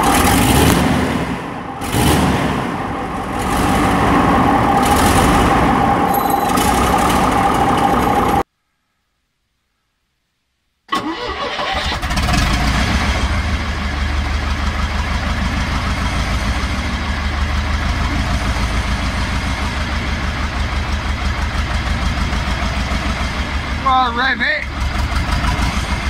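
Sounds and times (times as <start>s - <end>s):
diesel engine starting and idling: 0.0s - 8.4s, 10.9s - 26.0s.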